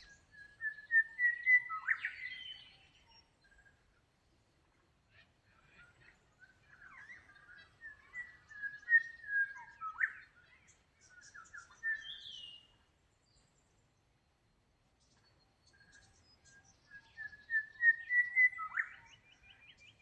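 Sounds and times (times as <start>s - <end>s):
songbird warbling: 0.0s - 3.9s, 5.2s - 12.8s, 15.0s - 20.0s.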